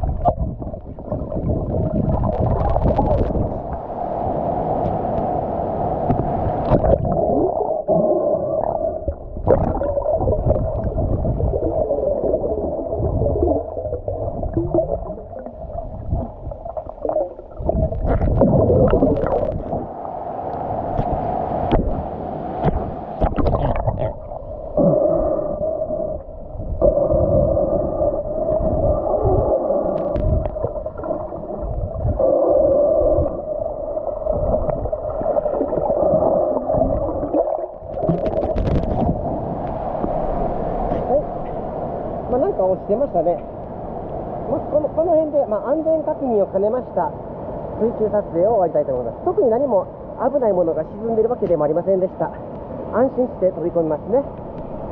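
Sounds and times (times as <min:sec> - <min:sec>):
muffled underwater water rushing: 0:00.0 - 0:50.2, 0:54.2 - 0:54.9.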